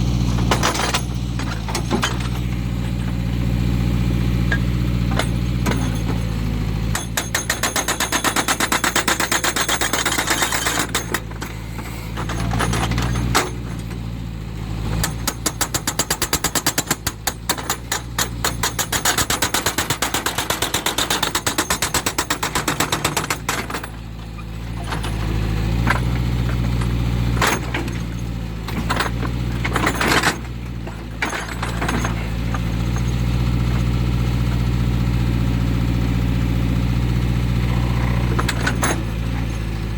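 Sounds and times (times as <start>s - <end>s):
diesel engine running: 0.0s - 39.9s
hydraulic breaker hammering rock: 0.3s - 3.2s, 4.4s - 14.0s, 15.0s - 34.8s, 37.6s - 39.9s.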